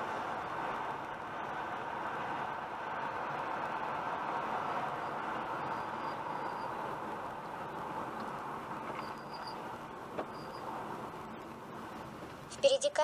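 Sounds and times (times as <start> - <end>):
road and tyre noise in car: 0.0 - 13.0.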